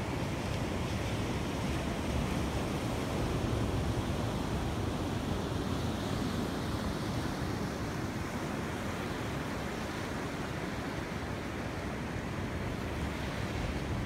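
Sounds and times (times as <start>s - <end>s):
ocean surf washing onto shore: 0.0s - 14.0s.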